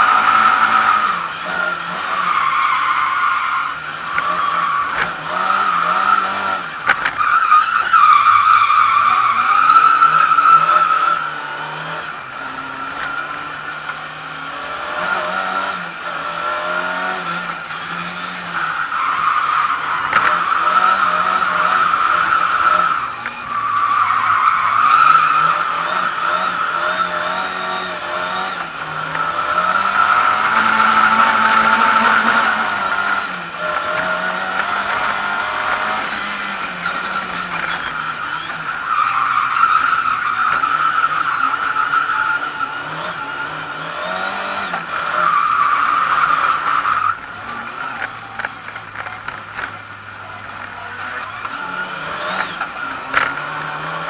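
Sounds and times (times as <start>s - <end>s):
car engine revving: 0.0s - 54.0s
tyre squeal: 0.0s - 54.0s.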